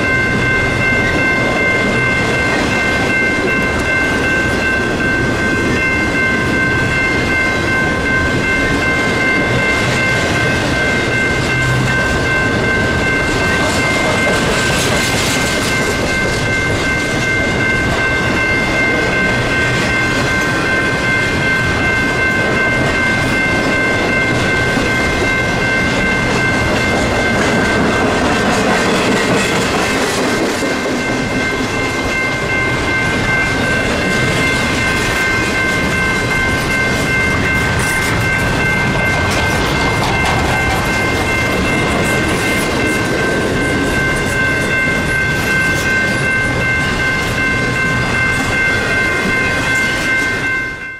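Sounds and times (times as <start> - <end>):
train wheels clacking: 0.0 - 50.9.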